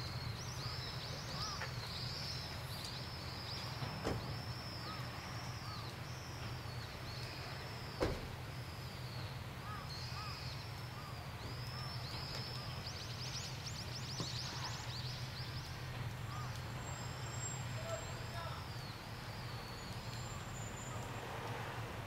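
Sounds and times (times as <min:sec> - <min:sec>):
birds chirping: 0:00.0 - 0:21.4.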